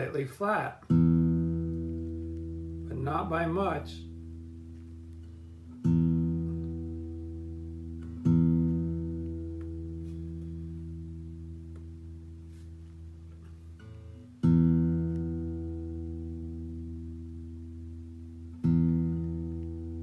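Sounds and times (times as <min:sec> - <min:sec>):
acoustic guitar string plucked: 0:00.5 - 0:20.0.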